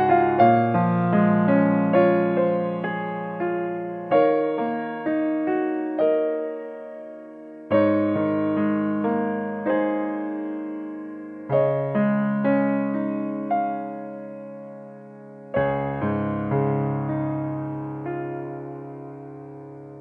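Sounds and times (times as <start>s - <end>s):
slow electric piano chords: 0.0s - 20.0s.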